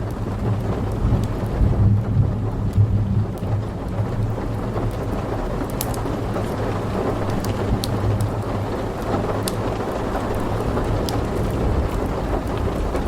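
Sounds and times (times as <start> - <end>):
heavy rain: 0.0 - 13.0
low rumble of thunder: 0.0 - 13.0
wood fire crackling: 0.0 - 13.0.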